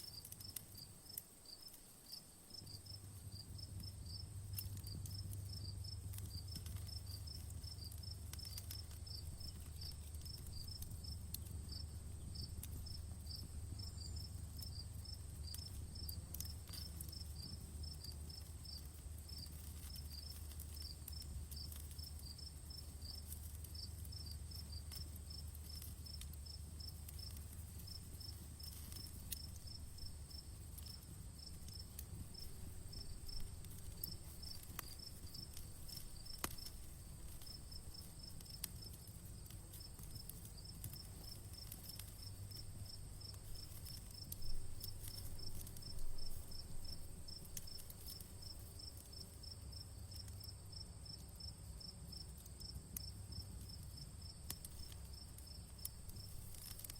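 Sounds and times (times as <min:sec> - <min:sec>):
burning wood crackling and popping: 0:00.0 - 0:56.9
campfire rumbling: 0:00.0 - 0:56.9
crickets chirping: 0:00.0 - 0:56.9.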